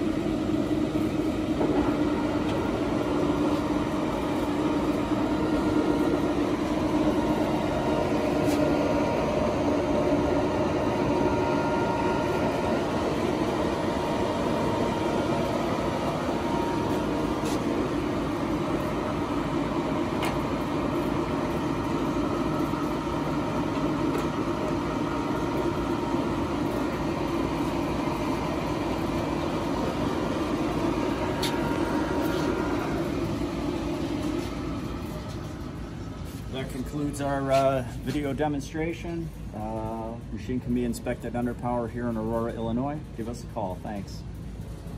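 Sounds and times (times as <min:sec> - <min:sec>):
lathe gear whine: 0:00.0 - 0:44.9.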